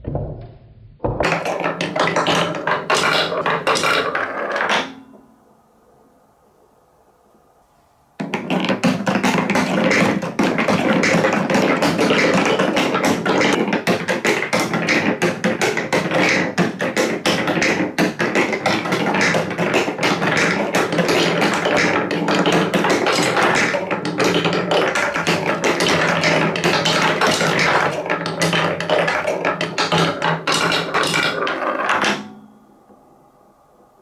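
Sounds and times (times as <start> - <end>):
balls clattering along plastic track: 1.1 - 5.2, 8.2 - 32.5.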